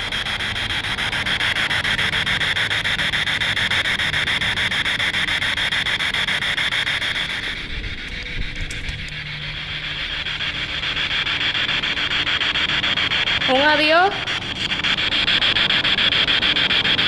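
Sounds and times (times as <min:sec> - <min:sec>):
pulsing radio static: 0:00.0 - 0:17.0.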